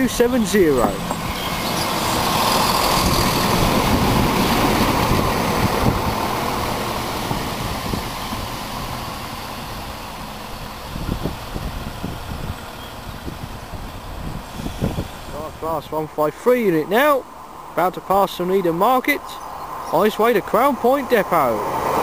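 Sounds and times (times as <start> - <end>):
diesel train passing: 0.0 - 22.0.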